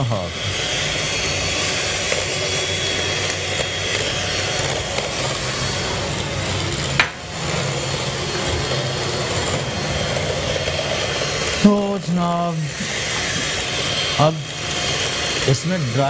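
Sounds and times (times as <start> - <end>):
electric hand beater running: 0.0 - 16.0.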